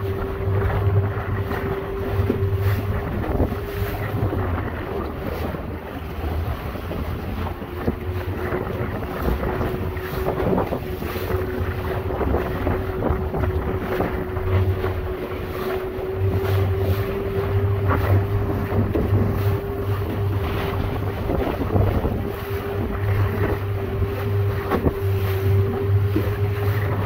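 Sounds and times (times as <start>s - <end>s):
outboard motor running: 0.0s - 27.0s
waves slapping aluminum hull: 0.0s - 27.0s
wind buffeting microphone: 0.0s - 27.0s.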